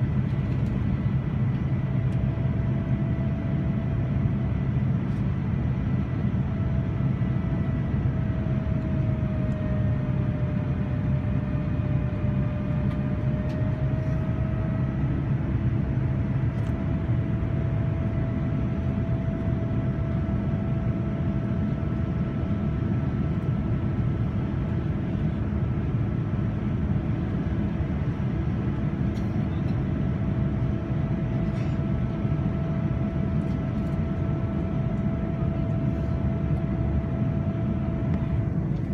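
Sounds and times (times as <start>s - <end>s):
airplane cabin roar: 0.0s - 38.9s
jet engine whine: 0.0s - 38.9s.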